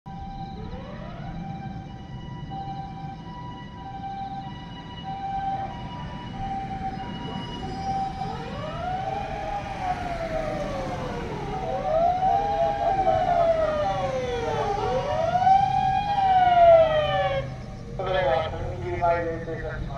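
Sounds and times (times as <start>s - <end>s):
road traffic rumble: 0.1s - 19.9s
two-tone ambulance siren: 0.1s - 19.9s
wailing siren: 0.1s - 19.9s.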